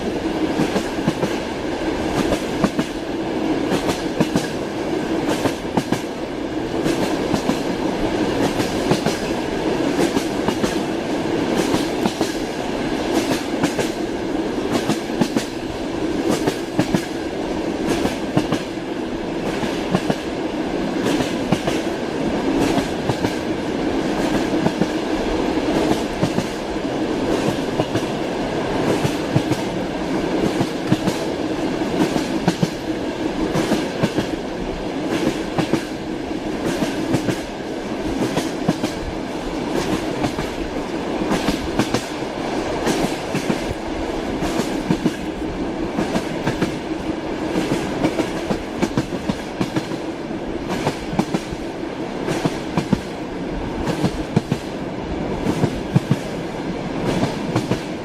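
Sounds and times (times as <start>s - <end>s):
train wheels clacking on rails: 0.0s - 58.0s.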